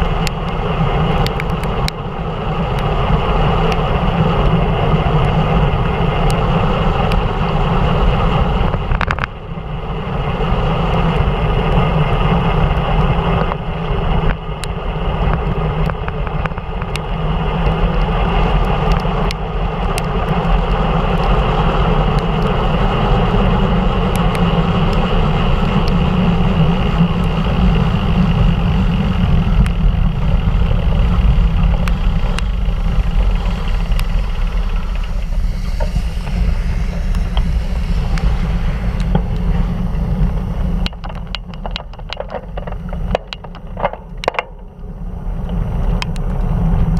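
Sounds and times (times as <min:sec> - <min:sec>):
tyre noise on wet road: 0:00.0 - 0:46.9
wind rushing on microphone: 0:00.0 - 0:46.9.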